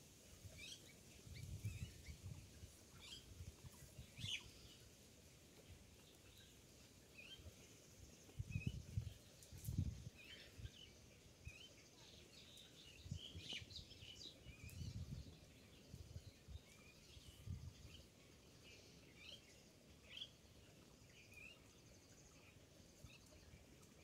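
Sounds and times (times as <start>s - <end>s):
small birds chirping: 0.4s - 24.0s.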